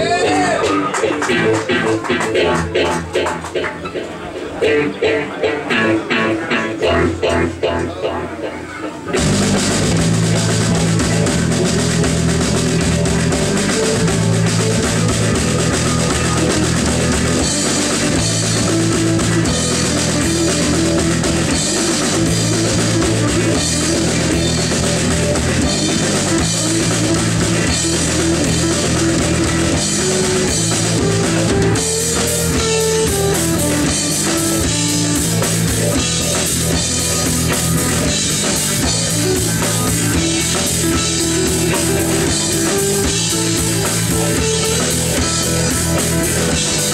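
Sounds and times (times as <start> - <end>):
rock band playing live: 0.0 - 46.9.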